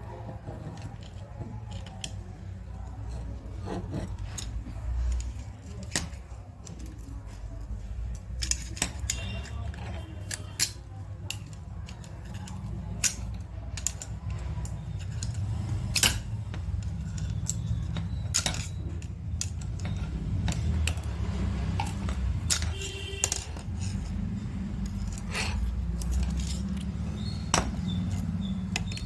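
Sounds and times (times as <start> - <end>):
metal parts and tools clicking: 0.0 - 29.0.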